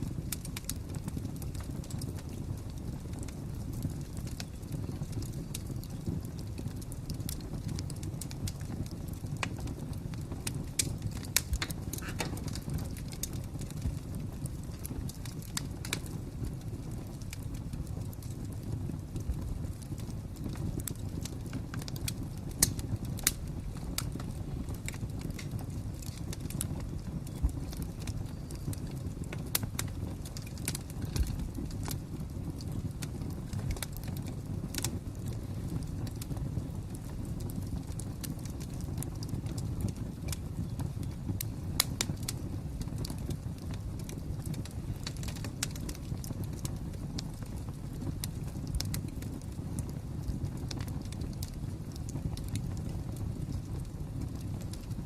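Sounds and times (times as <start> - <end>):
fire crackling: 0.0 - 55.0.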